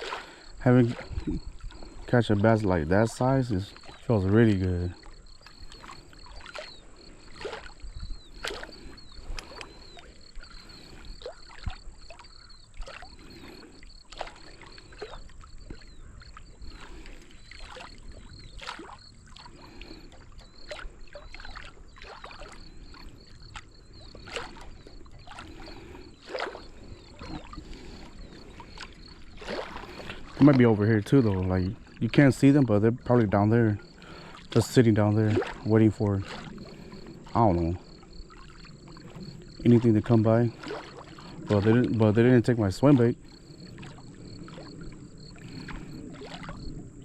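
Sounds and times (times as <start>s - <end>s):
lake water lapping: 0.0s - 47.0s
water slaps and splashes: 0.0s - 47.0s.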